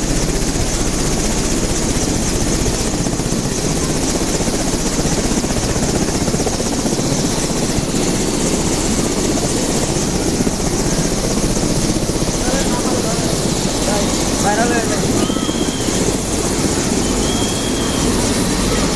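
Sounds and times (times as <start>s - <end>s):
helicopter rotor chop: 0.0s - 18.9s
high engine whine: 0.0s - 18.9s.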